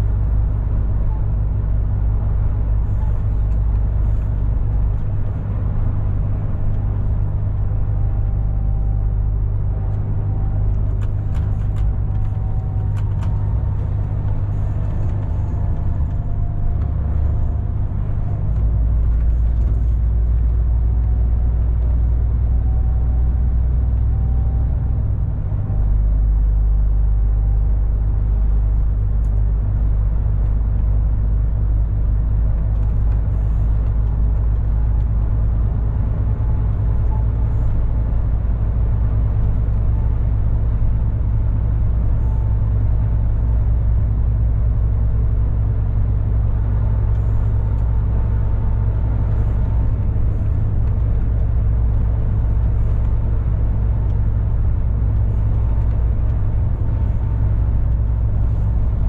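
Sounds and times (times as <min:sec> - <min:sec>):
lorry diesel engine driving: 0:00.0 - 0:59.0.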